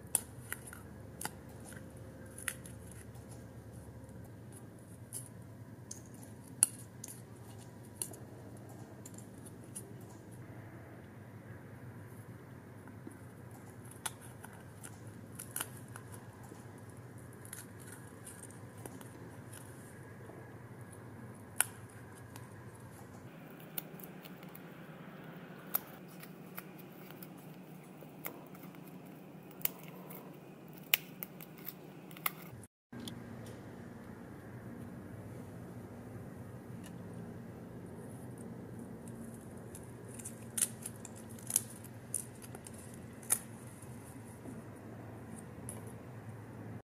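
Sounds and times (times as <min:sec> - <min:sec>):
faint steady hum: 0:00.0 - 0:46.8.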